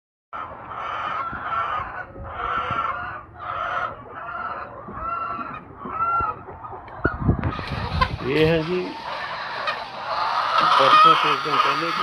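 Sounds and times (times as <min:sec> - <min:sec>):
hens clucking and squawking: 0:00.4 - 0:12.0.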